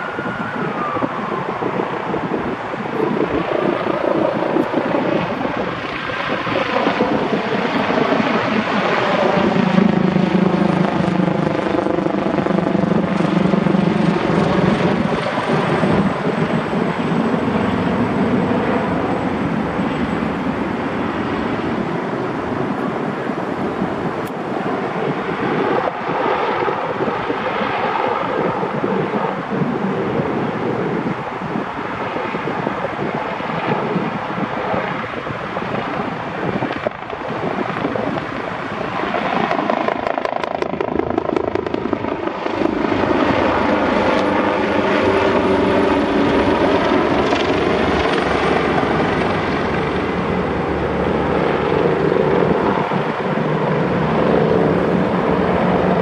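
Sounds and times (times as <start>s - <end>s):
helicopter flying overhead: 0.0s - 56.0s.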